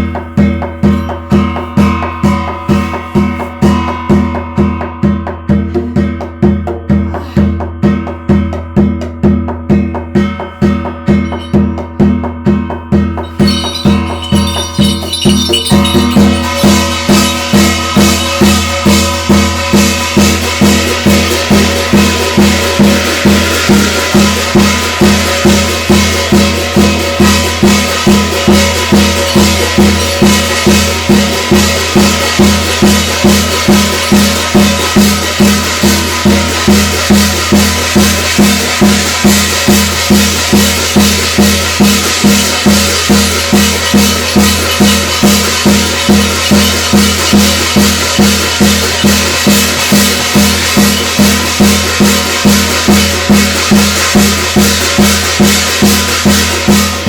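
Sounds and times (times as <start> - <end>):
drums beating steadily: 0.0 - 57.0.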